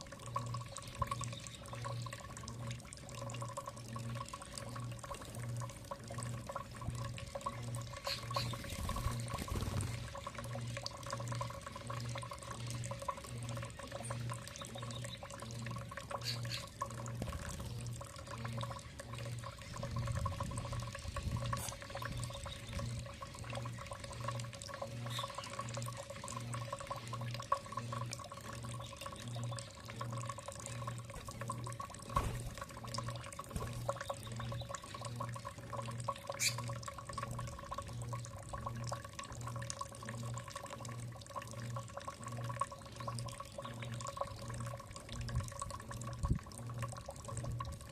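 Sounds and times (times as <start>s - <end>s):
pulsing low hum: 0.0s - 47.9s
water trickling and dripping: 0.0s - 47.9s.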